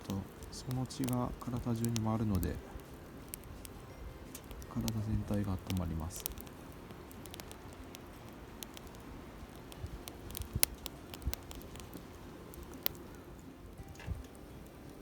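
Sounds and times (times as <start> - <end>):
campfire crackling: 0.0 - 15.0
sharp pops and snaps of fire: 0.0 - 15.0.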